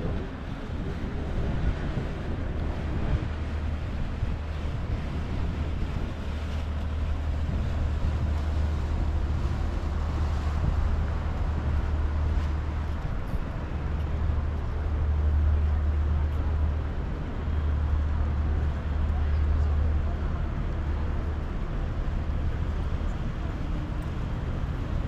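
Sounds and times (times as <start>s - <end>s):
low steady rumble: 0.0s - 25.0s
wind buffeting microphone: 0.0s - 25.0s.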